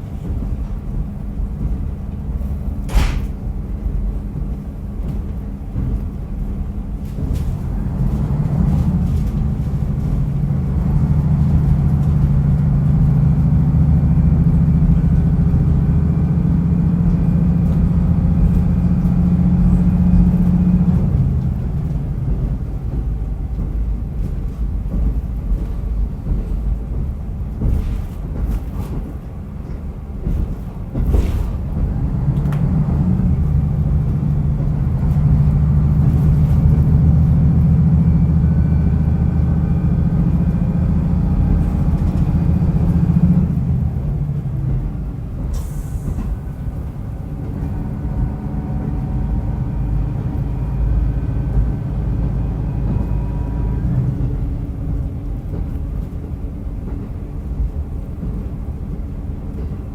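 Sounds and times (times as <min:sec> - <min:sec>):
diesel railcar engine droning: 0:00.0 - 0:59.9
railcar coasting rumble: 0:00.0 - 0:59.9.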